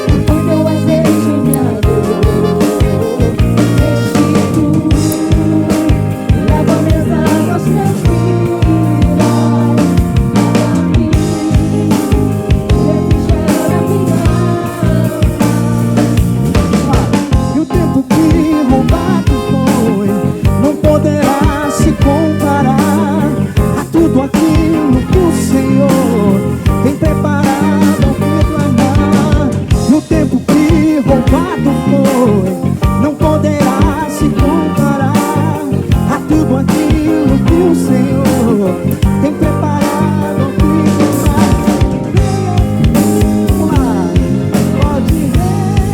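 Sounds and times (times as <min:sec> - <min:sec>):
live band playing soul music: 0:00.0 - 0:45.9.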